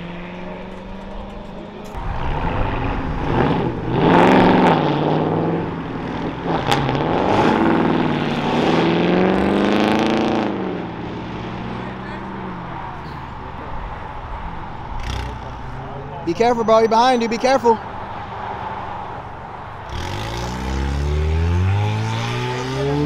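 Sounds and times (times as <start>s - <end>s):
car engine revving: 0.0s - 16.7s, 17.3s - 23.0s.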